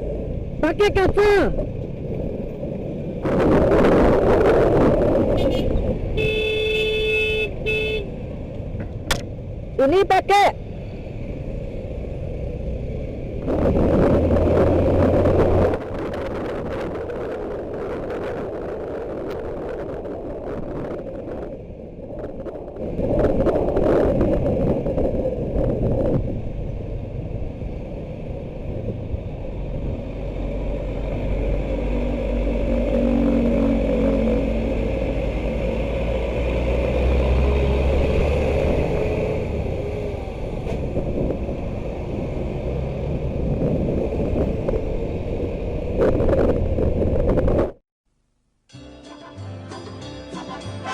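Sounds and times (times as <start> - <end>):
road noise: 0.0 - 47.8.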